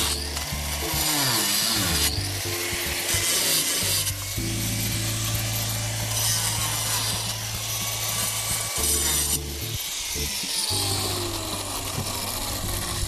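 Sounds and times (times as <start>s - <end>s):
music with low sustained chords: 0.0s - 13.0s
saw cutting wood: 0.0s - 13.0s.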